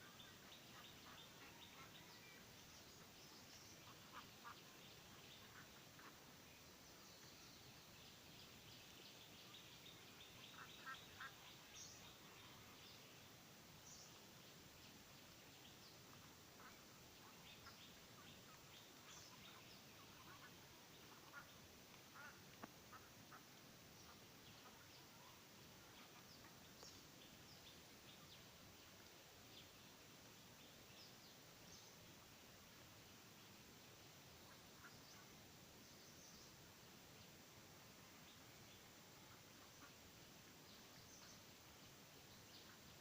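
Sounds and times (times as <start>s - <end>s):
background hiss: 0.0s - 43.0s
small birds chirping: 0.0s - 43.0s.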